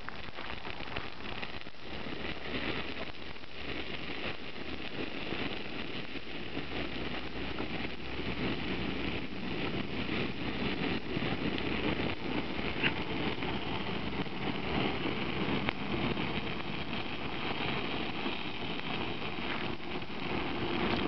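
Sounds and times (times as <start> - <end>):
fire crackling and hissing: 0.0 - 21.0.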